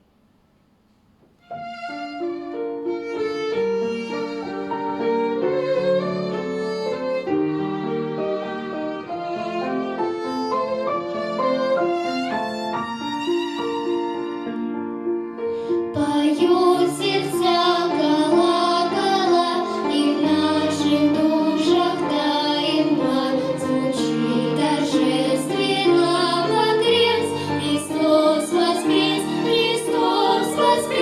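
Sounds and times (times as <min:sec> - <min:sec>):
violin melody with vibrato: 0:01.4 - 0:31.0.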